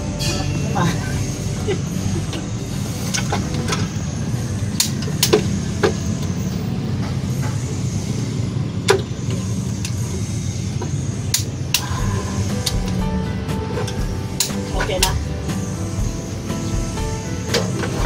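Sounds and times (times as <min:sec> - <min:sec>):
steady low drone: 0:00.0 - 0:18.0.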